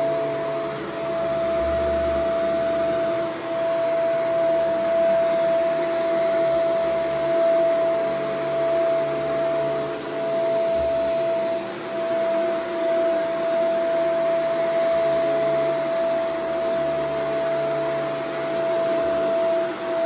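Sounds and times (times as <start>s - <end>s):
vacuum cleaner motor whine: 0.0s - 20.0s
vacuum suction and brushroll on carpet: 0.0s - 20.0s.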